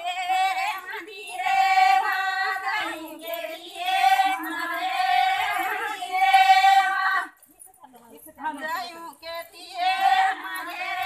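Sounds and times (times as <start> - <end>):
women singing folk song: 0.0 - 7.5, 8.3 - 11.0.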